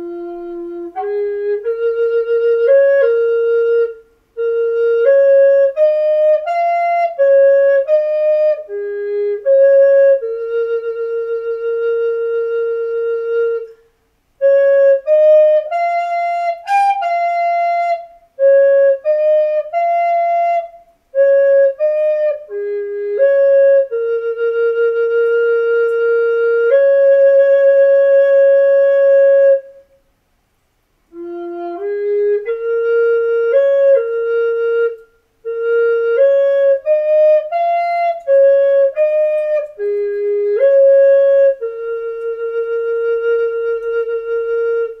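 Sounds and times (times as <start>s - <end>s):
solo flute melody: 0.0s - 30.2s, 31.0s - 45.0s.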